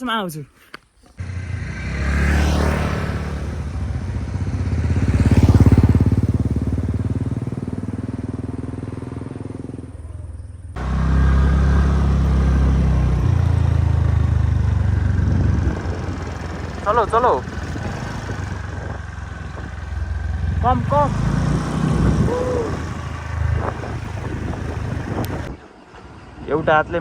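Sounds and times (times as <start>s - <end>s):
motorcycle engine running: 1.2s - 26.3s.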